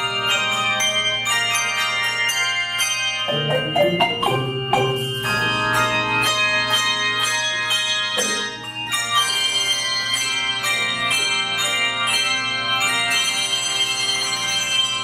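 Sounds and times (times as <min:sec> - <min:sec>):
handbell choir playing: 0:00.0 - 0:15.0.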